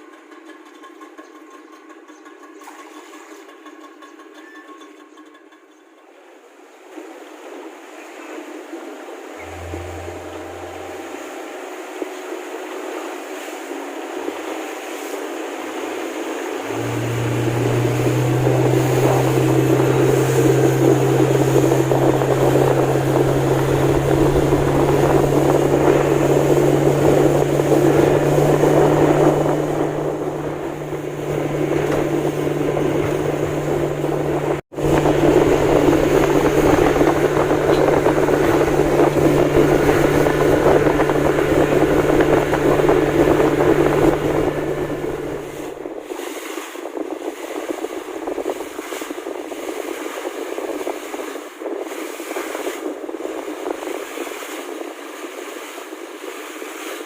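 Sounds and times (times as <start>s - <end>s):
boat engine hum: 6.5s - 57.0s
wind and water rushing: 6.5s - 57.0s.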